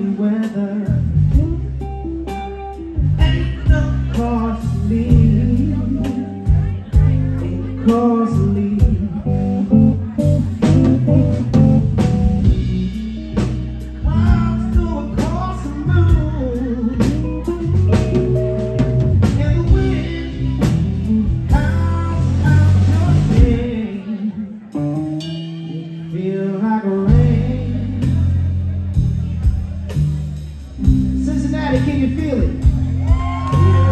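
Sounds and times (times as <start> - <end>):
man singing: 0.0 - 11.6, 12.4 - 25.0, 25.6 - 29.0, 30.8 - 33.9
drum kit: 0.0 - 23.9, 24.7 - 26.2, 27.0 - 33.9
electric bass: 0.0 - 33.9
electric guitar: 0.0 - 33.9.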